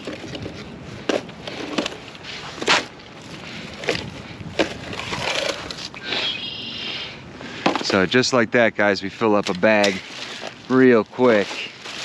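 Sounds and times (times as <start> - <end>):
footsteps crunching through dry grass: 0.0 - 6.6, 8.9 - 12.0.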